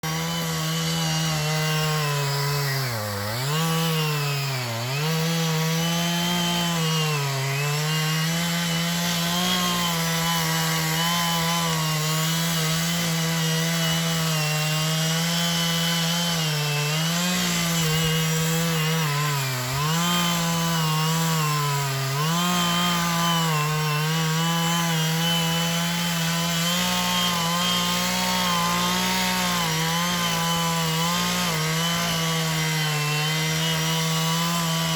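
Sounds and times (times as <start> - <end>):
chainsaw cutting into tree: 0.0 - 34.9.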